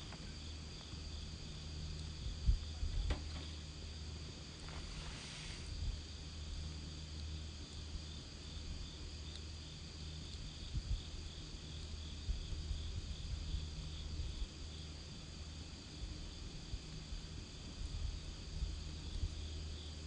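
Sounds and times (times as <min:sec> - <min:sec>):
campfire burning with soft pops: 0:00.0 - 0:20.0
crickets chirping: 0:00.0 - 0:20.0.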